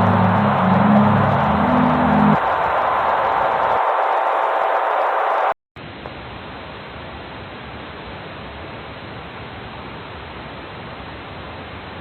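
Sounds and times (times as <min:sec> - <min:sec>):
television static hiss: 0:00.0 - 0:12.0.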